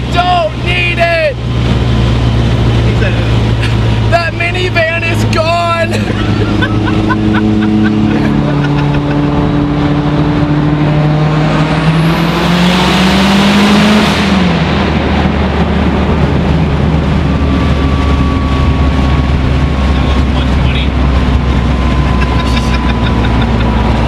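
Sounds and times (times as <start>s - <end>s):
car engine accelerating: 0.0s - 24.0s
rush of noise: 0.0s - 24.0s.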